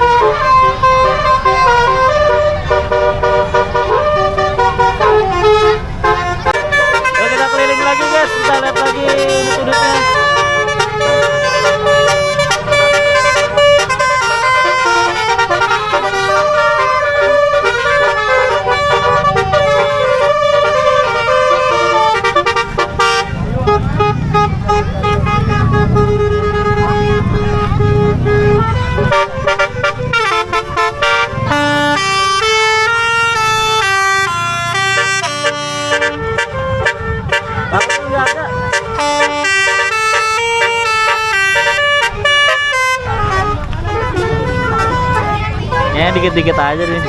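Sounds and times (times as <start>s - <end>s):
multi-tone horns playing melody: 0.0s - 47.0s.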